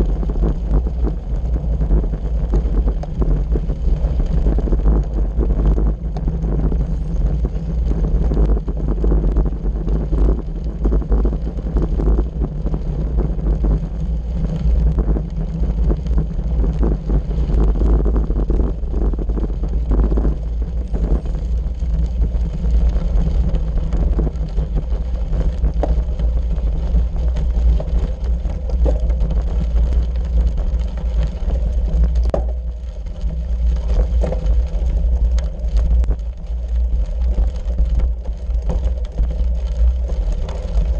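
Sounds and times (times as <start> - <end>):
bicycle tyres crunching on gravel: 0.0 - 40.9
wind rumble on microphone: 0.0 - 40.9.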